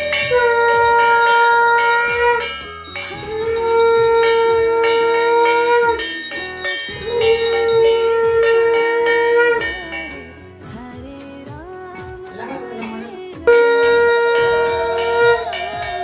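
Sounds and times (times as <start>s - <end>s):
conch shell blowing: 0.0s - 10.4s, 13.5s - 16.0s
bells ringing: 0.0s - 11.0s, 12.4s - 16.0s.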